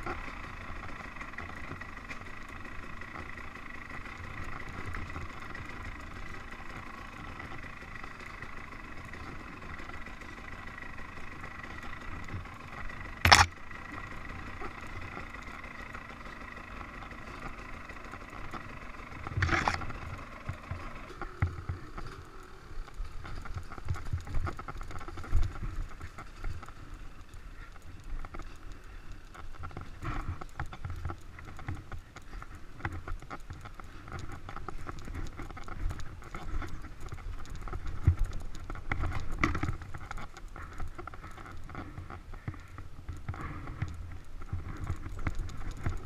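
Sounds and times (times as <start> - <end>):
dirt bike engine running: 0.0 - 46.0
knocks and rattles over rough ground: 0.0 - 46.0.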